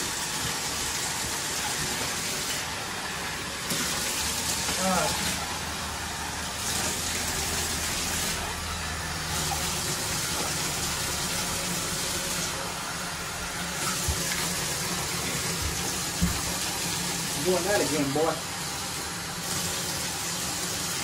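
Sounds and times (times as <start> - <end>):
water running into bathtub: 0.0 - 21.0.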